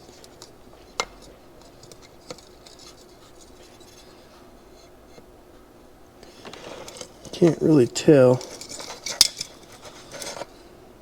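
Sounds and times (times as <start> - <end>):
faint metal scratching: 0.0 - 5.3, 6.2 - 10.6.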